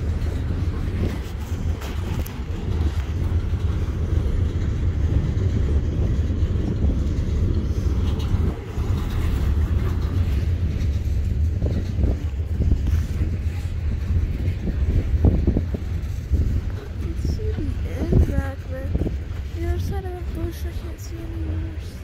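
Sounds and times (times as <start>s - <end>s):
freight train rolling on rails: 0.0s - 22.0s.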